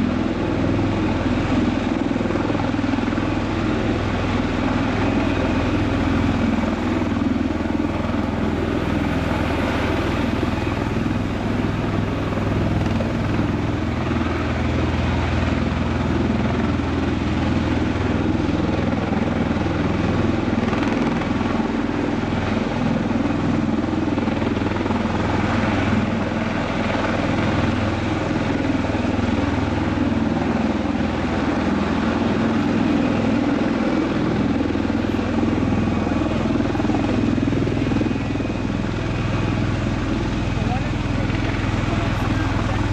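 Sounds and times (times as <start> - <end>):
tiltrotor aircraft hovering: 0.0 - 42.9.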